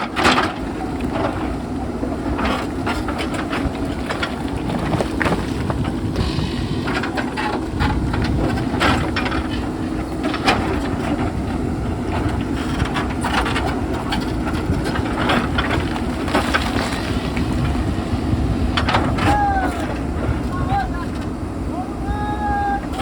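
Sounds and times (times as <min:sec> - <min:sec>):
diesel engine running under load: 0:00.0 - 0:23.0.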